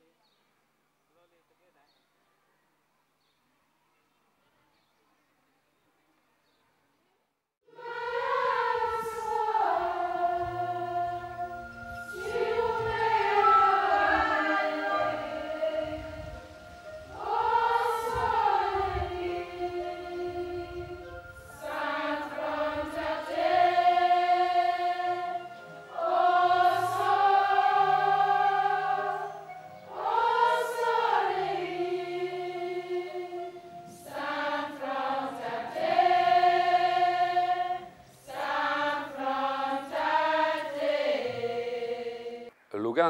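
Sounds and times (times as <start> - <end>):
girls choir singing: 7.7 - 42.5.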